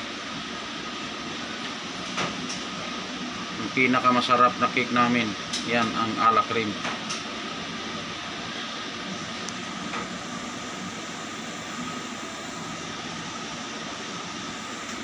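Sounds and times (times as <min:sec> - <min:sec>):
cooling fan humming: 0:00.0 - 0:15.0.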